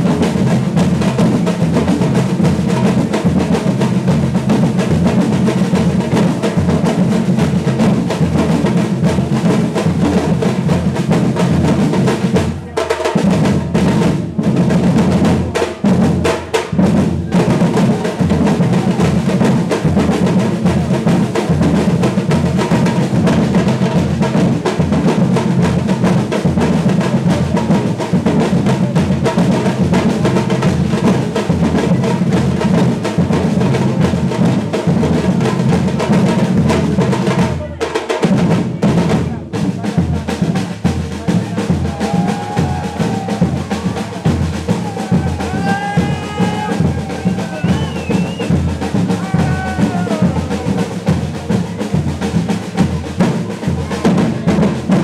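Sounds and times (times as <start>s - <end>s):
percussion ensemble playing: 0.0s - 55.0s
snare drum rolls: 0.0s - 55.0s.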